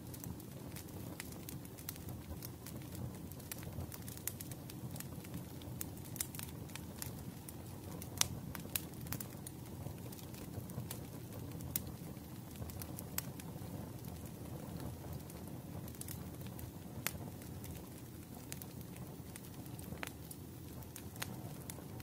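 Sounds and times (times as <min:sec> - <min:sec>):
fireplace fire crackling: 0:00.0 - 0:22.0.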